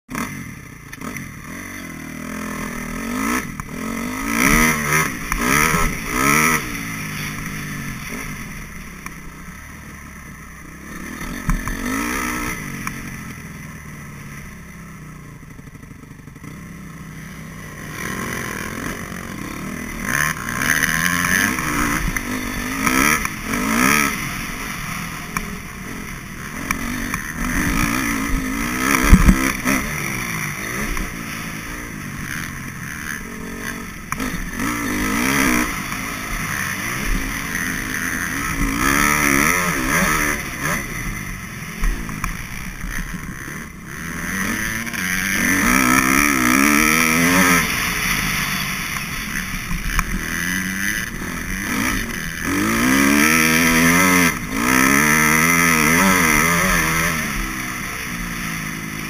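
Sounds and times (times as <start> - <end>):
motocross bike engine revving: 0.1 - 59.0.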